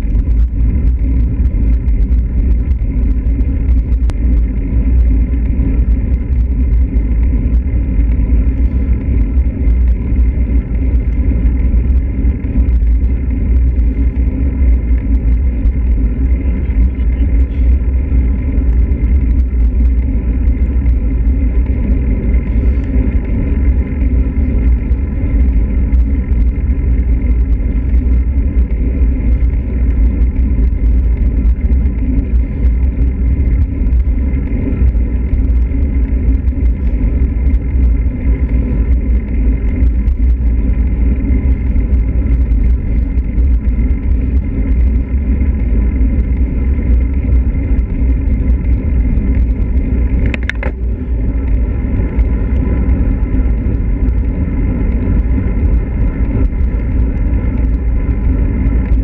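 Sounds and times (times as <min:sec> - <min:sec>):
bicycle tyre and road noise: 0:00.0 - 0:59.0
wind rumble on microphone: 0:00.0 - 0:59.0.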